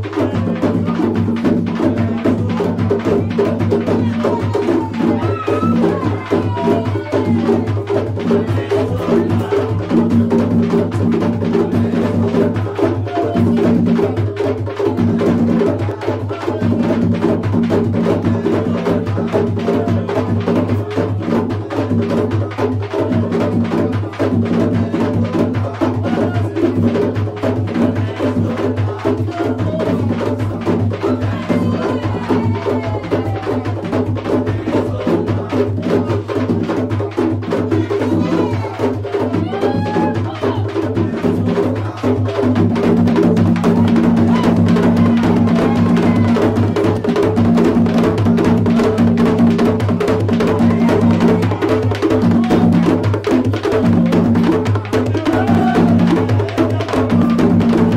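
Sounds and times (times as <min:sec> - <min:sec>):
fast drumming: 0:00.0 - 0:57.9.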